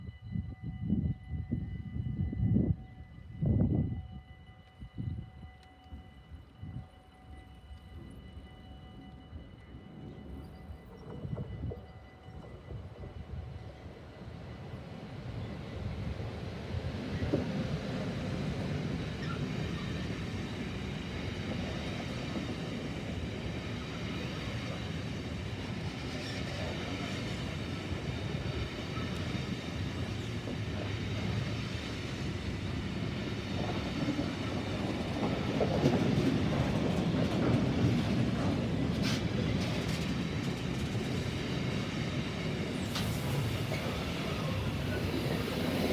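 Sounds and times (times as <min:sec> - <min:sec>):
train wheels rumbling on rails: 0:00.8 - 0:45.9.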